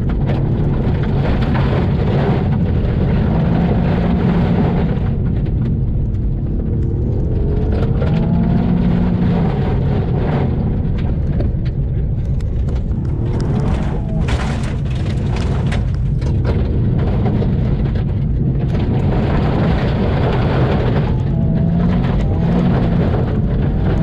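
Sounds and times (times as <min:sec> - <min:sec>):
car engine low rumble: 0:00.0 - 0:24.0
gravel rattling against underbody: 0:00.0 - 0:24.0.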